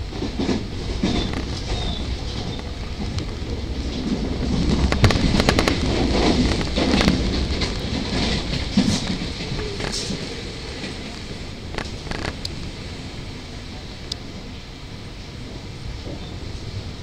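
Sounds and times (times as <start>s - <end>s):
wheels clacking over rail joints: 0.0s - 14.5s
train passing alongside: 0.0s - 17.0s
train running noise: 0.0s - 17.0s.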